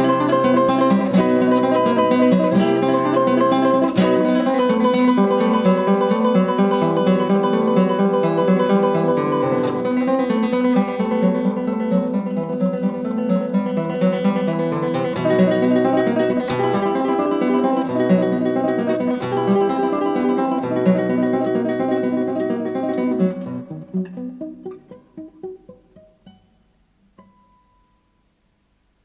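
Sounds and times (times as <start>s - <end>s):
plucked acoustic guitar music: 0.0s - 28.2s.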